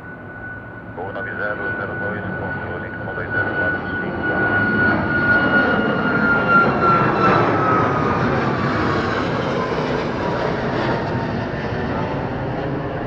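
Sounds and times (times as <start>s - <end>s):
jet engines running with whine: 0.0s - 13.0s.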